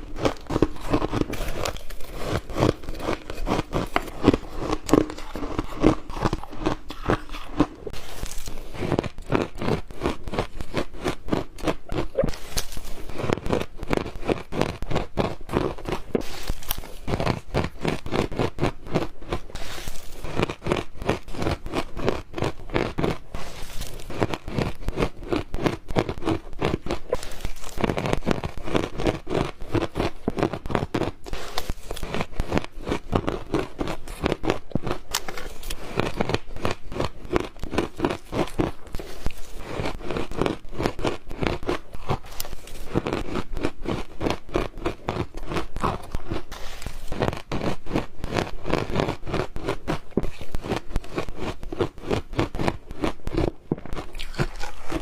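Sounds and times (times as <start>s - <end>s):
ice crunched between teeth: 0.0s - 55.0s.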